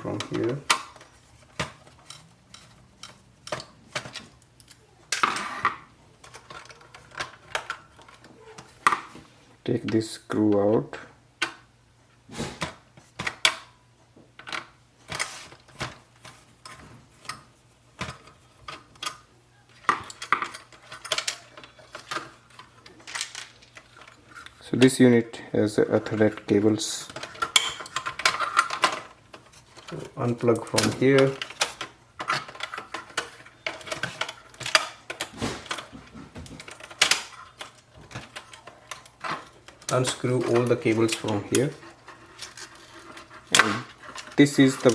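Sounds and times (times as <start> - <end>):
screwdriver and parts clattering: 0.0 - 9.2, 14.4 - 25.0, 25.7 - 44.9.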